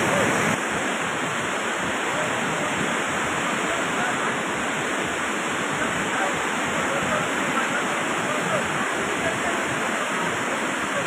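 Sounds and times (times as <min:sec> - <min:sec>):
flood water rushing: 0:00.0 - 0:11.0.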